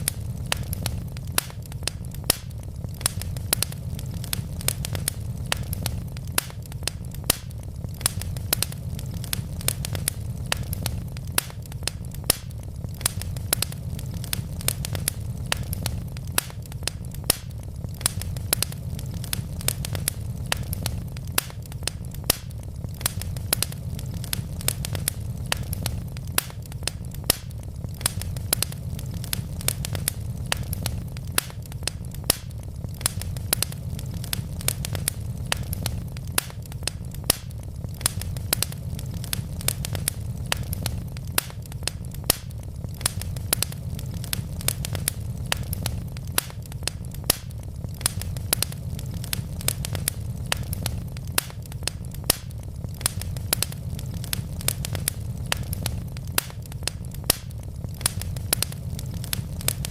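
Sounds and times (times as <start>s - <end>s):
logs crackling in a fireplace: 0.0s - 59.9s.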